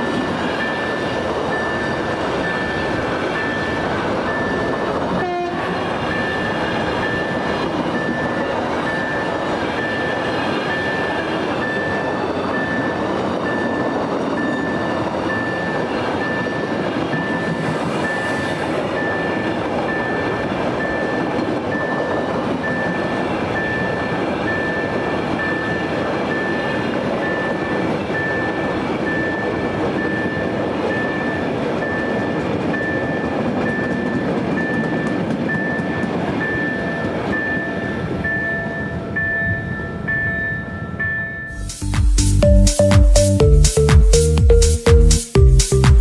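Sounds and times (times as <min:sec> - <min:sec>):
train wheels rumbling on rail: 0:00.0 - 0:43.4
level crossing signal beeping: 0:00.0 - 0:46.0.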